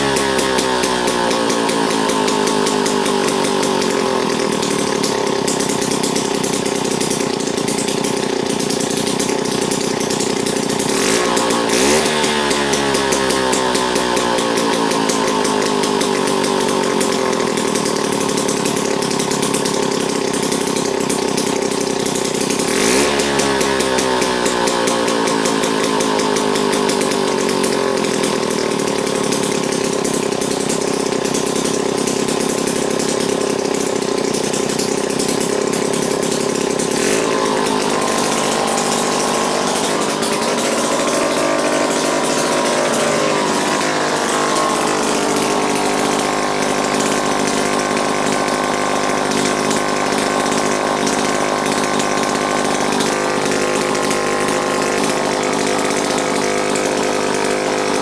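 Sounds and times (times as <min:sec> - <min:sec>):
two-stroke engine running: 0:00.0 - 0:58.0.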